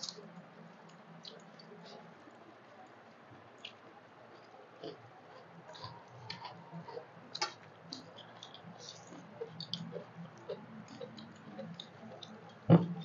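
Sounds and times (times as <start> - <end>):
fingers mixing food on steel plates: 0.0 - 13.0
mouths chewing: 0.0 - 13.0.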